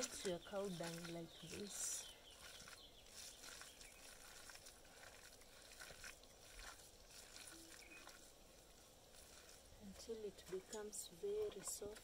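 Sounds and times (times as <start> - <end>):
hands squelching wet dung: 0.0 - 12.0.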